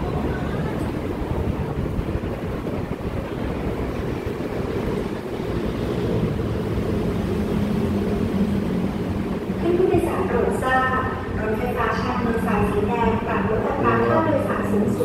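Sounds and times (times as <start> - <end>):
faint station concourse hum: 0.0 - 15.0
wind buffeting microphone: 0.0 - 15.0.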